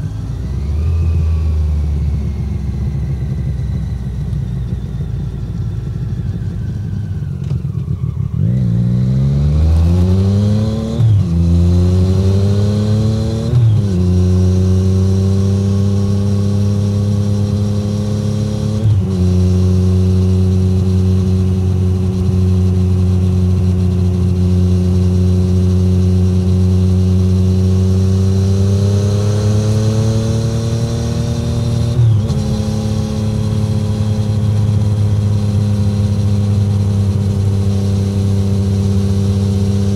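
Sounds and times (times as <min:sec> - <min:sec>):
motorcycle engine revving: 0:05.5 - 0:39.9.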